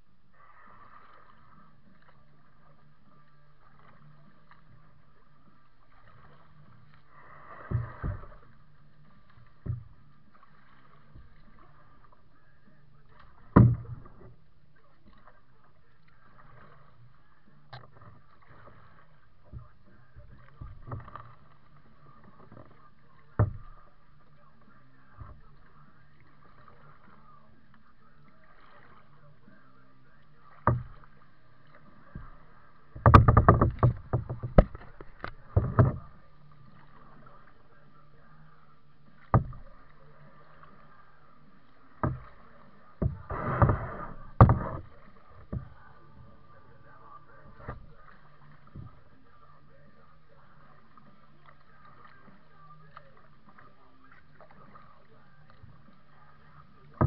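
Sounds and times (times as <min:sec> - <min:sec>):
paddle splashes: 0:00.0 - 0:57.0
paddle knocking plastic hull: 0:07.6 - 0:15.4, 0:17.6 - 0:50.0, 0:50.6 - 0:57.0.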